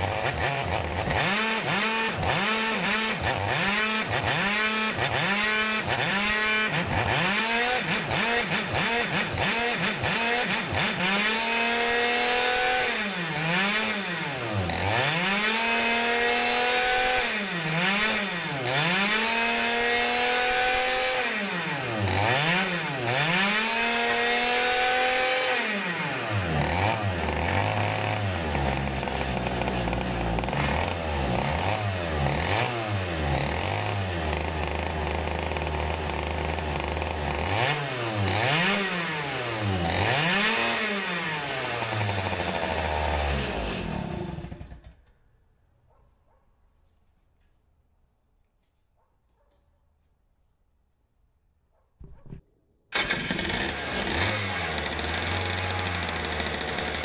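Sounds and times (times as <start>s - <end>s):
kart engine revving: 0.0s - 45.1s, 52.9s - 57.0s.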